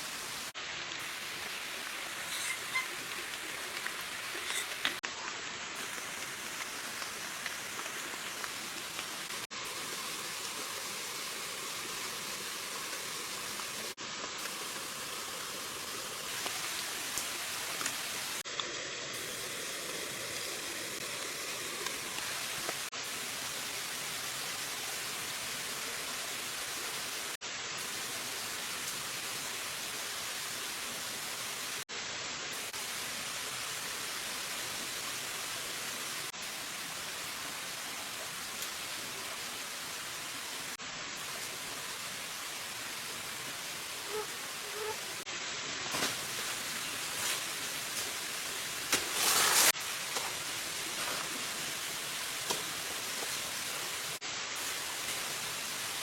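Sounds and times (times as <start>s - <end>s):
rushing water hiss: 0.0s - 56.0s.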